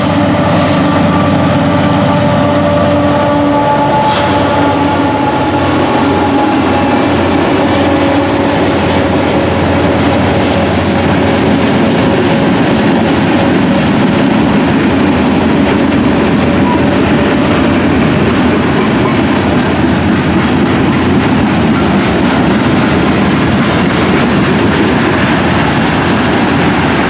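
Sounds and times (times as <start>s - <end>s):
diesel locomotive engines droning: 0.0s - 27.0s
wheels rumbling on rail: 0.0s - 27.0s.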